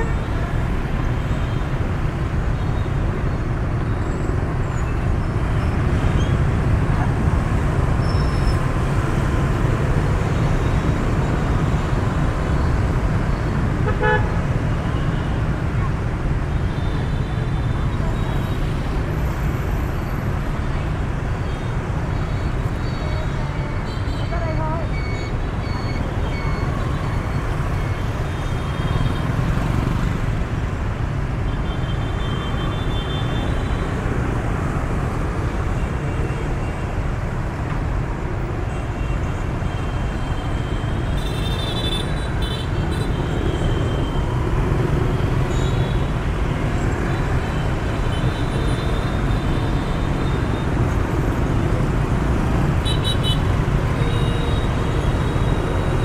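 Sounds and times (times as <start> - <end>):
scooter and motorbike traffic rumble: 0.0 - 56.0.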